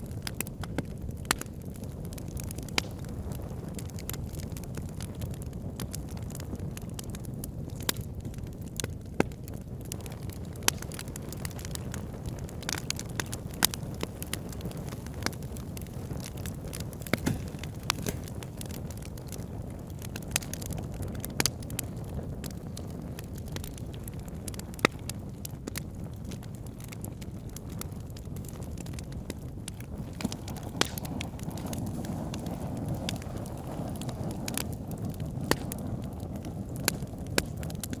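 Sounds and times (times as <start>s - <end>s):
fire crackling and popping: 0.0s - 38.0s
fire rumbling: 0.0s - 38.0s.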